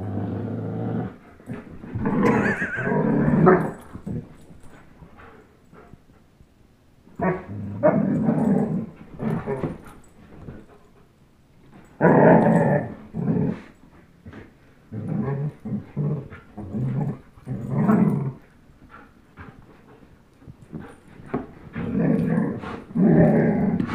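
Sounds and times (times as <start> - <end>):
dogs growling in play: 0.0 - 6.1, 7.1 - 11.0, 11.6 - 23.9.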